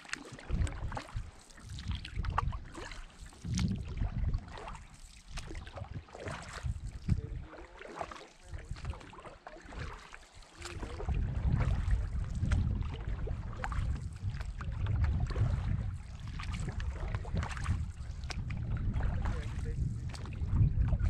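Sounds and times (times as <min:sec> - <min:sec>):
water splashing and dripping: 0:00.0 - 0:21.0
wind rumble on microphone: 0:00.3 - 0:21.0.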